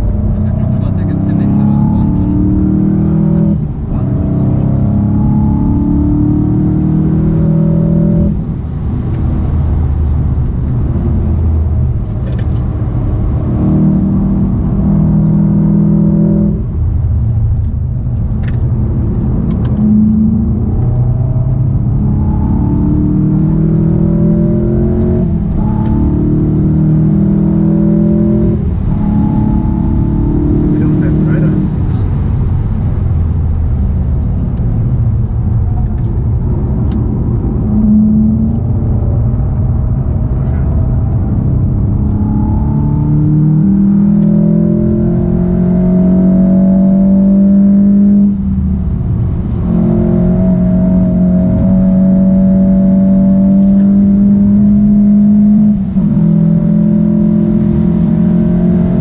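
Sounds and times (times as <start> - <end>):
car engine accelerating hard: 0.0 - 59.0
road and tyre noise: 0.0 - 59.0.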